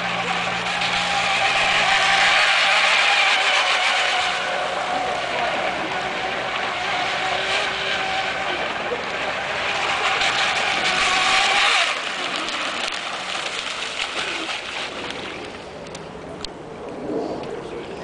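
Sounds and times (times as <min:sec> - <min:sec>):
motor and propeller whine: 0:00.0 - 0:18.0.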